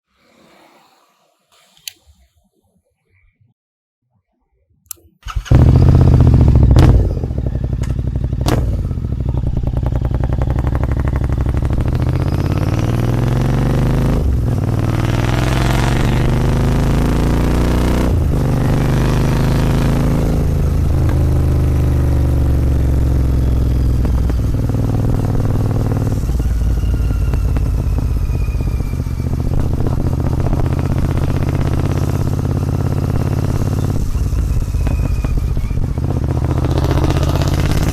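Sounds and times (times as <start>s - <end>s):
motorcycle engine shifting gears: 4.9s - 37.9s.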